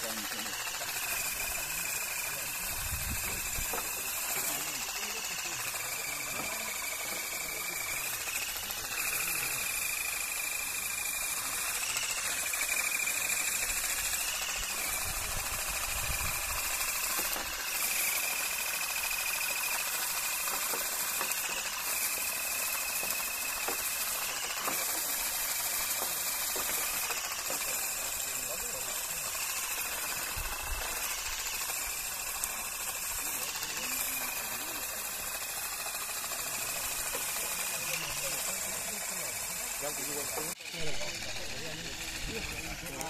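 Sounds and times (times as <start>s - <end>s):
olive harvester motor whine: 0.0s - 43.0s.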